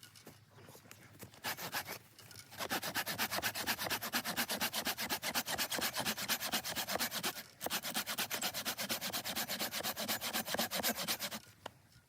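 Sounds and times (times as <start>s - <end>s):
hand saw cutting wood: 1.2s - 11.5s.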